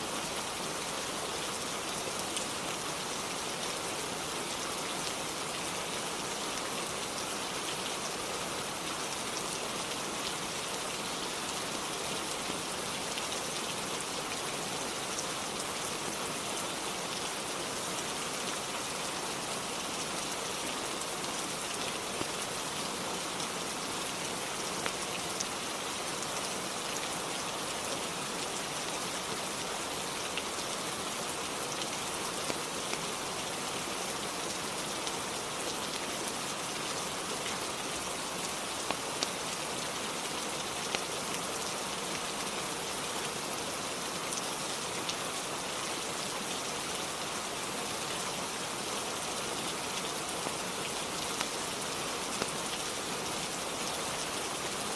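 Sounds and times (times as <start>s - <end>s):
rain on a roof: 0.0s - 54.9s.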